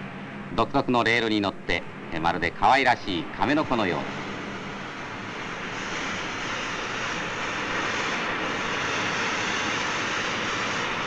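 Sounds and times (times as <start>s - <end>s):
cutting torch hissing roar: 0.0s - 11.0s.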